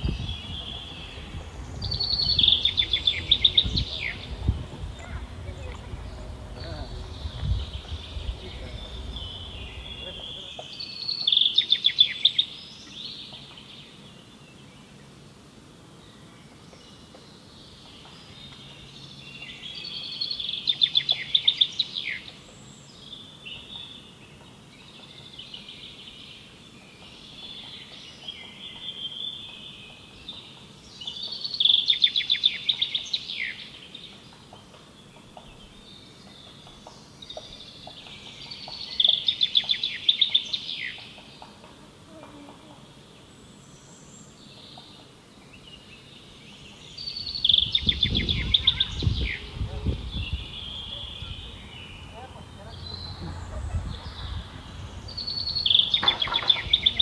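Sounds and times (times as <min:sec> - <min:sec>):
songbird trilling: 0:00.0 - 0:14.7, 0:17.7 - 0:41.6, 0:43.8 - 0:57.0
faint bird twittering: 0:00.0 - 0:15.2, 0:16.0 - 0:57.0.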